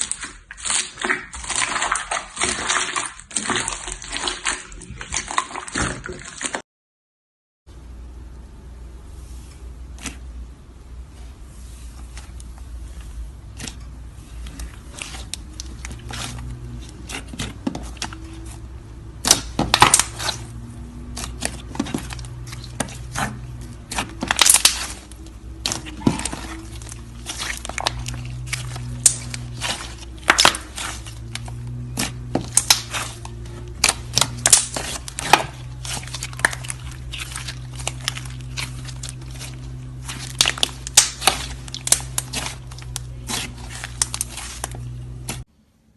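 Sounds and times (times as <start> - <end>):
low steady hum: 7.7 - 45.9.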